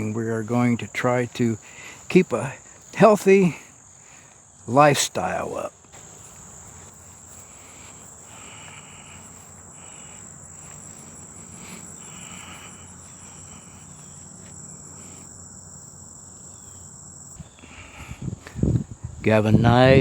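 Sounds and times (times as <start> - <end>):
insects trilling chorus: 0.0 - 20.0
lower-pitched insect call: 0.0 - 20.0.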